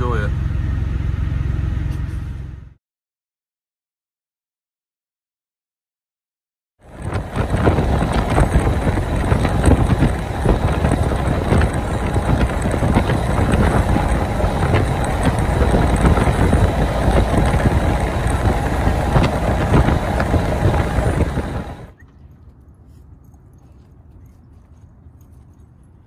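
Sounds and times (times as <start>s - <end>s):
truck road and engine noise: 0.0s - 2.8s, 6.8s - 26.0s.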